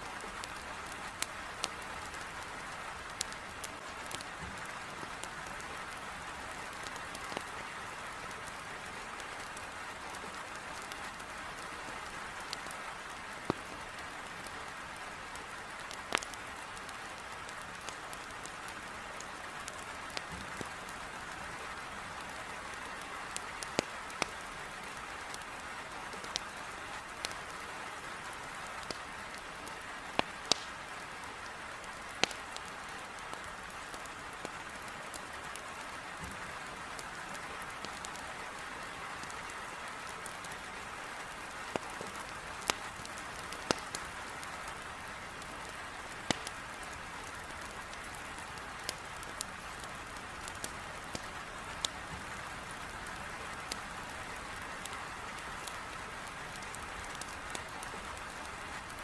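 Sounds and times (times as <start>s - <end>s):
heavy rain on window: 0.0s - 59.0s
firewood popping and crackling: 0.4s - 6.0s, 6.7s - 7.6s, 9.2s - 11.2s, 12.4s - 14.6s, 15.4s - 21.0s, 22.2s - 24.4s, 25.2s - 27.6s, 28.4s - 38.2s, 40.2s - 59.0s.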